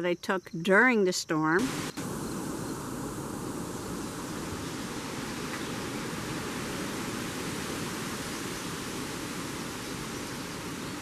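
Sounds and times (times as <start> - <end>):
wind rushing through leaves: 1.6 - 11.0.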